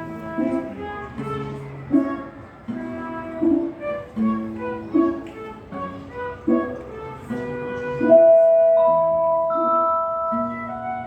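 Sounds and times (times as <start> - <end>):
folk instrument ensemble playing: 0.0 - 11.0.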